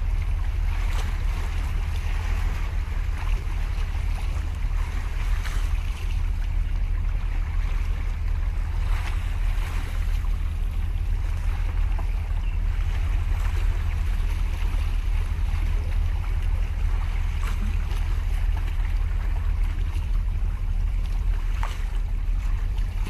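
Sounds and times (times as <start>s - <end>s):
sea waves breaking on concrete: 0.0s - 23.0s
wind buffeting microphone: 0.0s - 23.0s.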